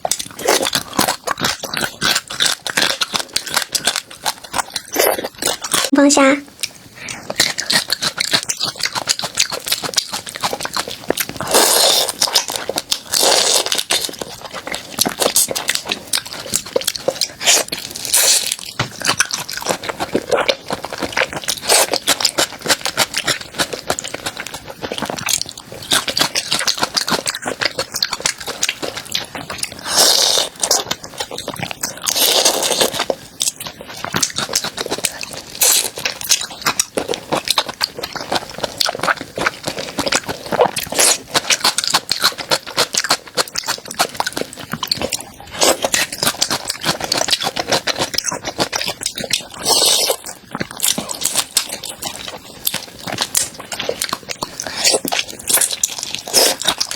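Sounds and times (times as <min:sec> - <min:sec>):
crunchy chewing of crisp food: 0:00.0 - 0:56.9.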